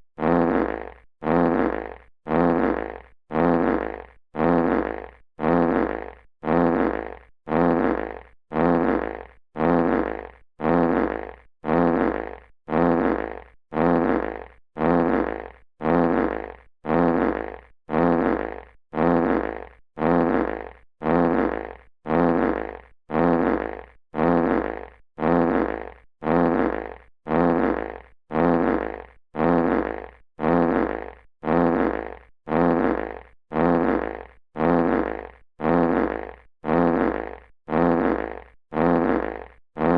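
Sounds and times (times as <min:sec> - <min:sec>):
fart sound effect: 0:00.2 - 0:39.9.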